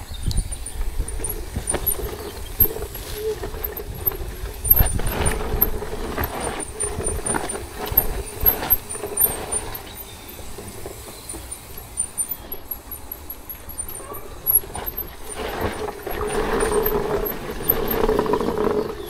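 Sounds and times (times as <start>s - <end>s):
bike rattling over rocks: 0.0s - 19.0s
bike tyres rumbling: 0.0s - 19.0s.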